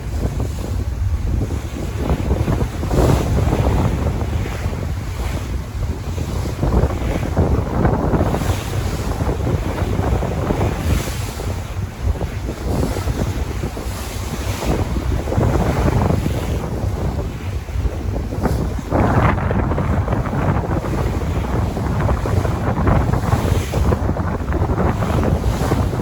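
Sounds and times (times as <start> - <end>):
sea waves washing: 0.0 - 26.0
wind buffeting microphone: 0.0 - 26.0.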